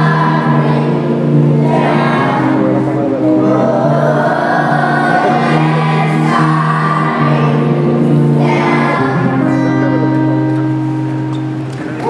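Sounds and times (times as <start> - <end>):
voices singing together: 0.0 - 10.0
long held accompaniment notes: 0.0 - 12.0.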